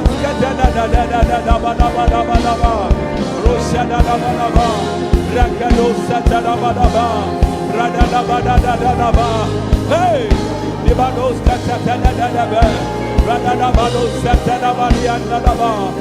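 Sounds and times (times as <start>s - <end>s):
bass: 0.0s - 16.0s
steady drum beat: 0.0s - 16.0s
worship band music: 0.0s - 16.0s.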